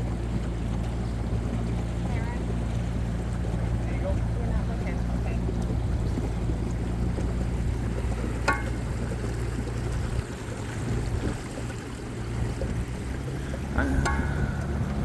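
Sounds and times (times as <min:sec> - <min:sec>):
boat motor humming: 0:00.0 - 0:15.0
water rushing past hull: 0:00.0 - 0:15.0.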